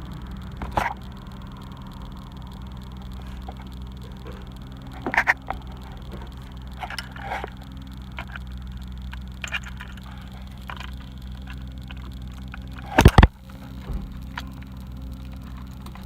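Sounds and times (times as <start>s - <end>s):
steady low hum: 0.0s - 16.0s
light clicks and handling noises: 0.4s - 16.0s.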